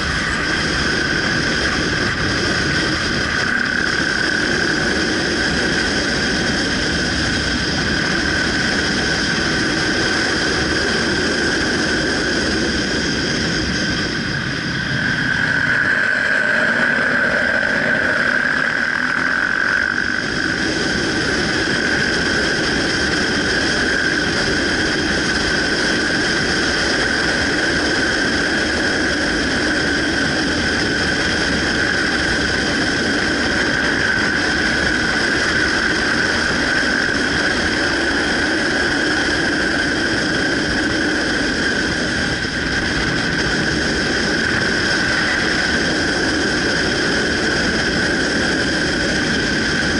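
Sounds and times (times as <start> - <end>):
high-pitched whine: 0.0 - 49.9
motorcycle engine: 0.0 - 49.9
wind: 0.0 - 49.9.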